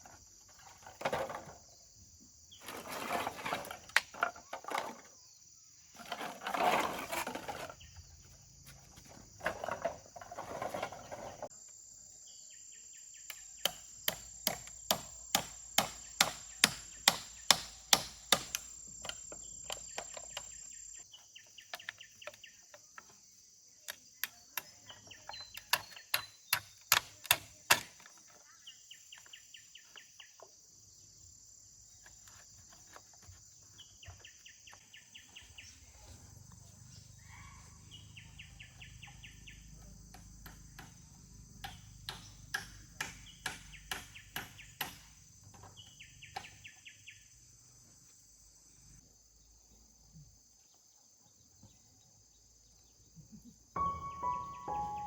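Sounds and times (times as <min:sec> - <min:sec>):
high insect drone with chirping: 0:00.0 - 0:55.0.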